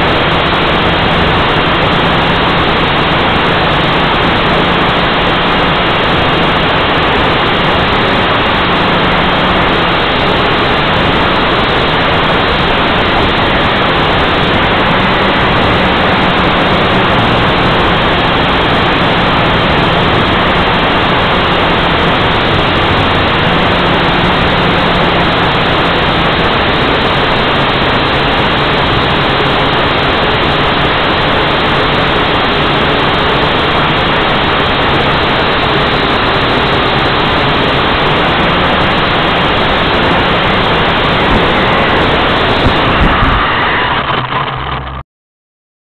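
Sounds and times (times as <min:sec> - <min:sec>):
drone propellers rushing: 0:00.0 - 0:44.9.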